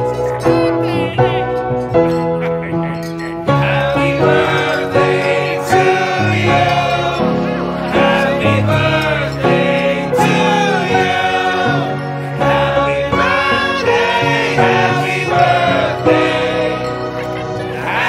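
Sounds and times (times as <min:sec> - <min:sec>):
music with choir-like singing: 0:00.0 - 0:18.0.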